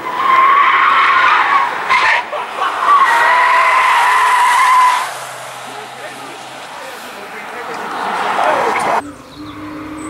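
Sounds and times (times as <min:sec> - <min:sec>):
car tyres squealing: 0:00.0 - 0:10.0.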